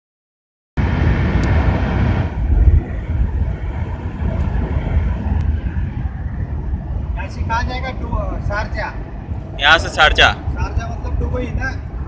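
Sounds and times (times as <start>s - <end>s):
car road and wind noise: 0.8s - 12.0s.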